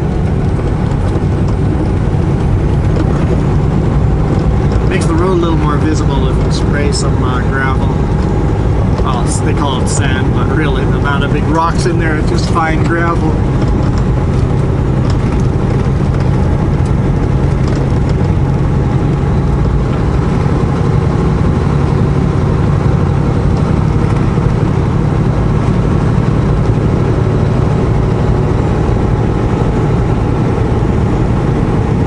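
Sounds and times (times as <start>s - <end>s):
diesel truck engine running: 0.0s - 32.0s
road and tyre noise: 0.0s - 32.0s.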